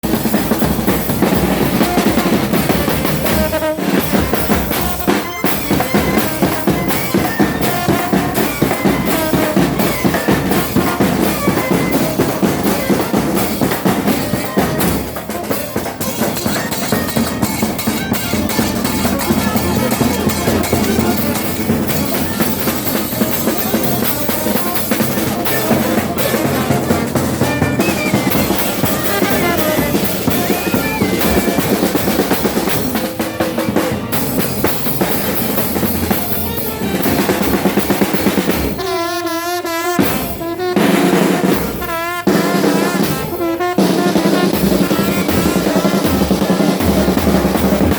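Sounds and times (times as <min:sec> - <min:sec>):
drums beating: 0:00.0 - 0:47.9
wind instruments: 0:00.0 - 0:47.9.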